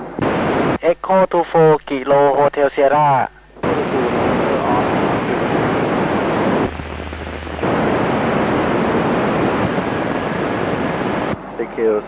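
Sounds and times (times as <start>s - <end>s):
low steady hum: 0.0s - 12.0s
radio static hiss: 0.0s - 12.0s.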